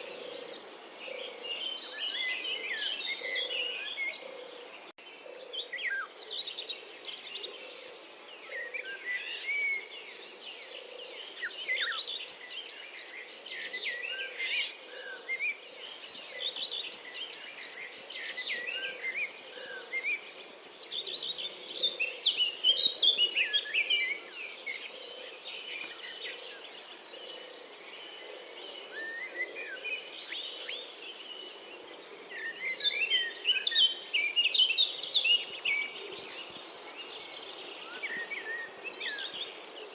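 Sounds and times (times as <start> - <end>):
robin singing: 0.0 - 31.5, 32.1 - 39.9.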